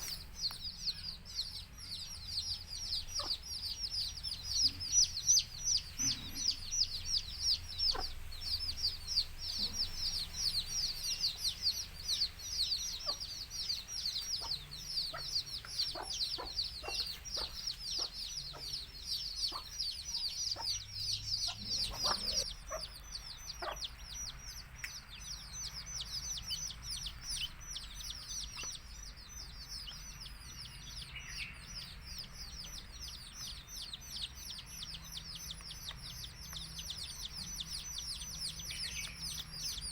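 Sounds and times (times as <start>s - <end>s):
baby chicks peeping: 0.0s - 39.9s
hen clucking: 2.6s - 39.9s.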